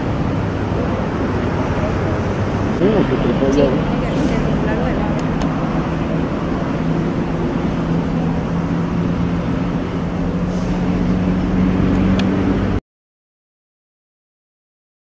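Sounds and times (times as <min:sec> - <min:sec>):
low engine drone: 0:00.0 - 0:12.8.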